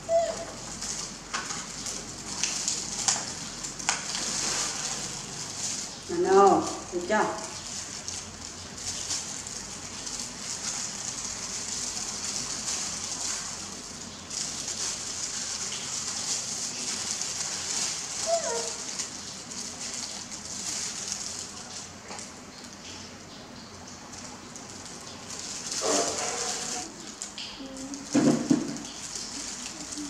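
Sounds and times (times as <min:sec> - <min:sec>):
plastic gloves crackling: 0:00.1 - 0:22.7, 0:24.1 - 0:30.0.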